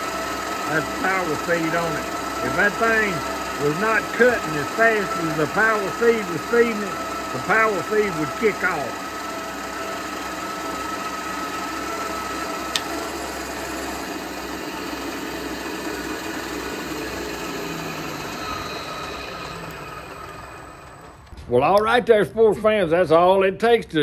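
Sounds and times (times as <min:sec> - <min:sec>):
thin steady tone of drill cutting: 0:00.0 - 0:21.3
machine spindle running: 0:00.0 - 0:21.4.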